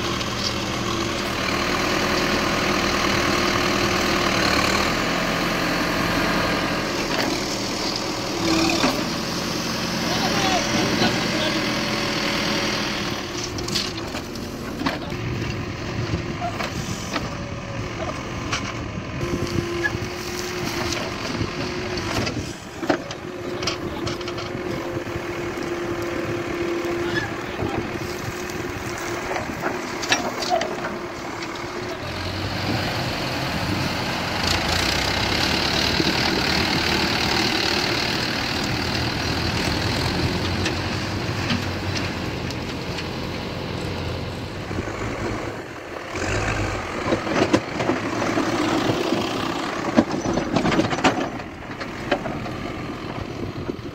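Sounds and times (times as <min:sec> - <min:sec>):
backhoe digging soil: 0:00.0 - 0:53.9
diesel engine running: 0:00.0 - 0:53.9.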